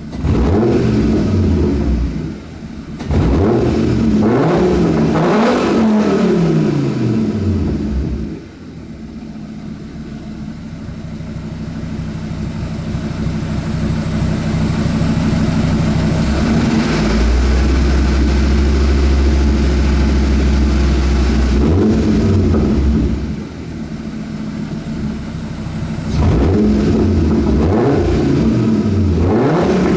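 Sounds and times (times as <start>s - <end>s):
car engine revving and idling: 0.0s - 29.9s
deep engine drone: 0.0s - 29.9s.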